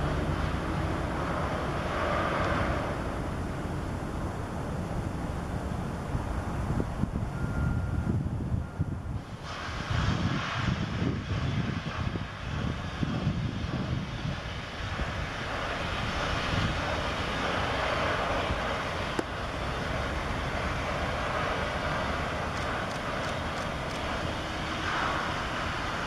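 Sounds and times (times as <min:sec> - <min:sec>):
distant engine drone: 0:00.0 - 0:26.0
wind rumble on microphone: 0:00.0 - 0:26.0.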